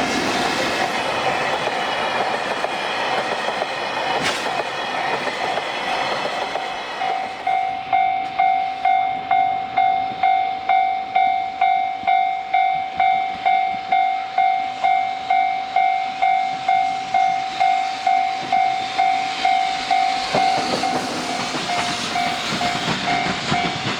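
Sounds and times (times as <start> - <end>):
train wheels rushing: 0.0 - 10.3, 12.9 - 23.9.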